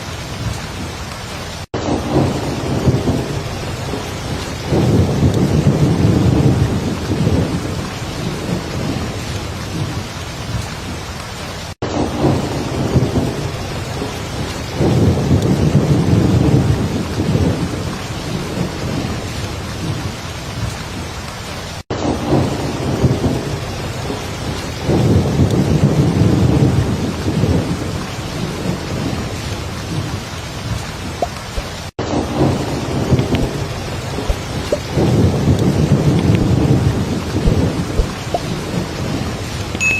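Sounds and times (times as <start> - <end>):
heavy rain falling: 0.0 - 39.9
low rolling thunder: 1.8 - 10.8, 11.8 - 21.0, 22.0 - 39.7.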